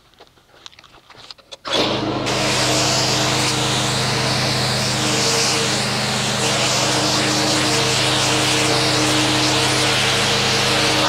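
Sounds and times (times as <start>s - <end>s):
pressure washer motor hum: 1.6s - 11.0s
water jet hissing: 1.8s - 11.0s.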